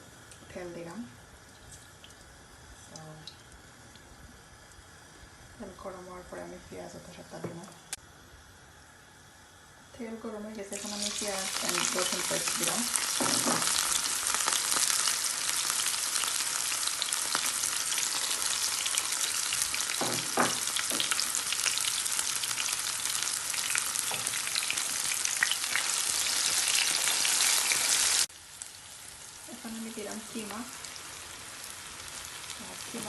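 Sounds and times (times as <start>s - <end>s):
onions frying in hot oil: 0.0s - 7.2s, 8.0s - 33.0s.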